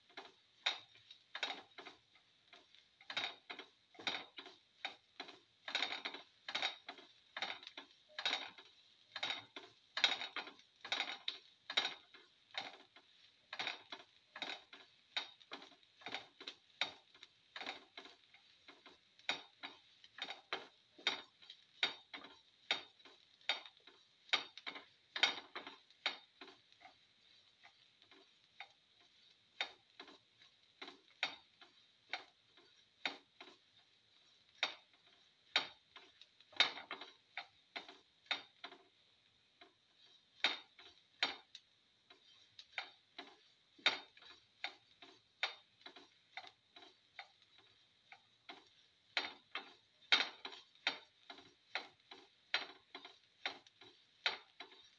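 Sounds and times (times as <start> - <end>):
food sauteing: 0.0 - 54.9
spatula scraping a pan: 0.0 - 54.9.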